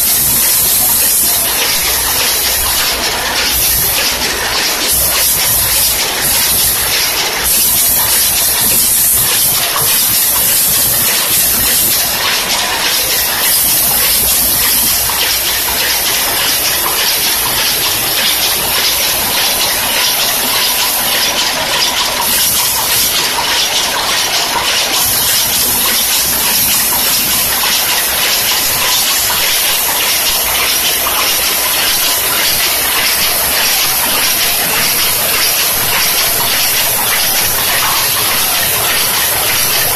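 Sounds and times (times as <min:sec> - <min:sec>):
packing machine clatter: 0:00.0 - 0:39.9.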